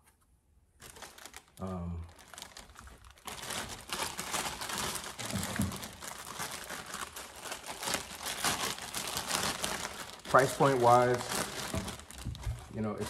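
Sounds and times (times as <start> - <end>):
plastic bags crinkling: 0.8 - 13.0.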